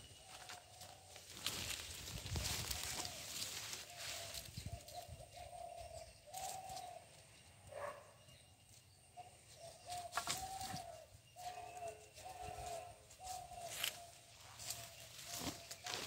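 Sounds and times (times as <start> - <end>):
dove cooing: 0.2 - 8.0, 9.2 - 16.0.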